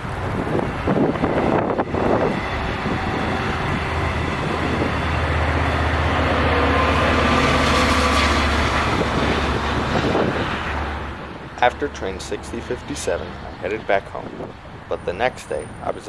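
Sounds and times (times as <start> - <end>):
diesel train engine hum: 0.0 - 16.0
wind buffeting microphone: 0.0 - 16.0.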